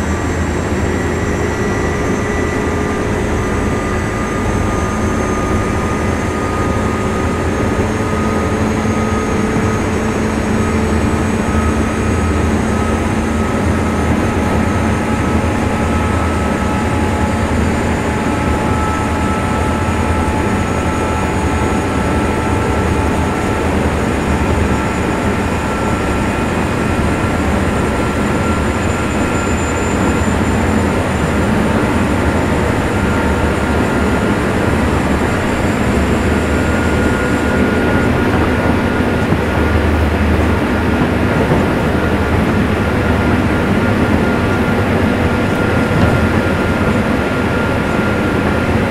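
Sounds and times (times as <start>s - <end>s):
high electric motor whine: 0.0s - 48.9s
train wheels rumbling on rail: 0.0s - 48.9s.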